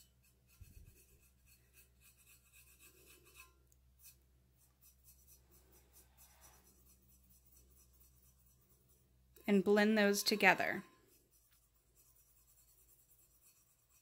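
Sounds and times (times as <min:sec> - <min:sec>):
fingertip dabbing paint on metal: 0:00.0 - 0:14.0.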